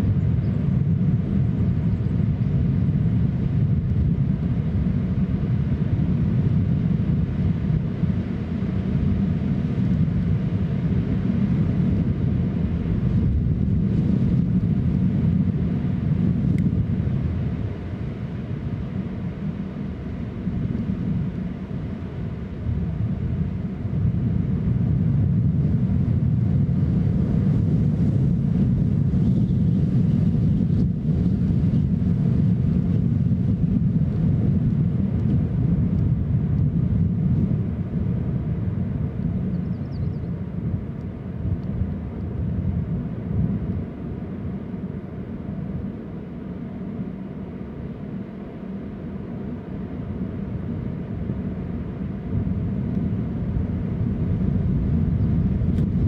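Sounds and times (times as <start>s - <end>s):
wind buffeting microphone: 0.0s - 47.6s, 48.2s - 56.0s.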